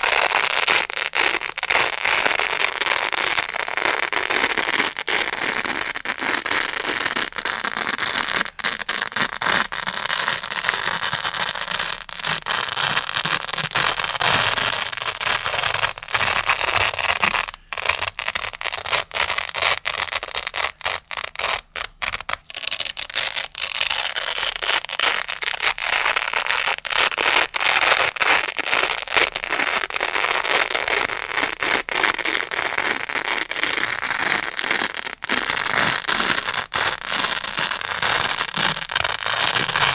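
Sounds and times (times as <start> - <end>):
velcro pad crackling: 0.0 - 39.9.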